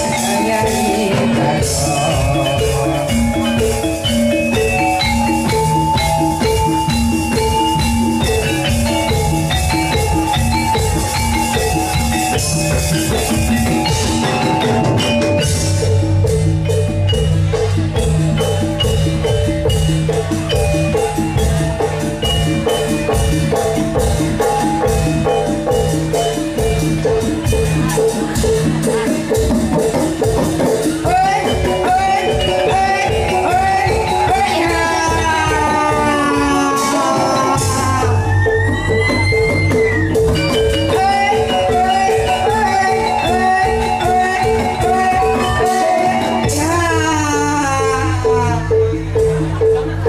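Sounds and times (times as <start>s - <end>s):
metallophones playing melody: 0.0s - 50.0s.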